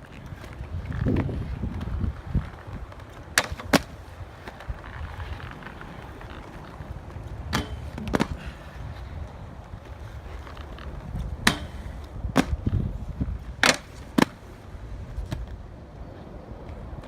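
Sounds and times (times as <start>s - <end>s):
skates clacking on ground: 0.0s - 15.6s
inline skate wheels rolling on concrete: 0.0s - 17.0s.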